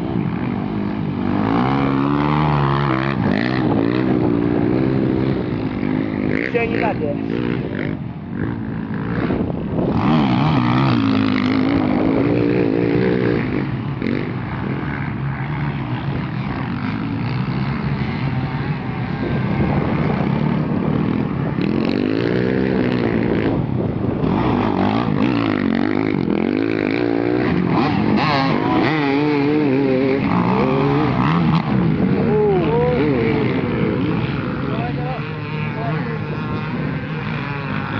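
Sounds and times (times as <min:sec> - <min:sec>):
motocross bikes revving: 0:00.0 - 0:37.9
motorbike passing by: 0:00.0 - 0:37.9.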